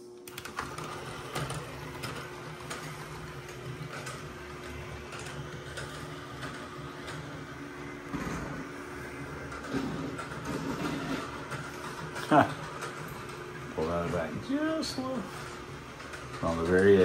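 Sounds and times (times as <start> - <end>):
toy train motor whirring: 0.3 - 17.0.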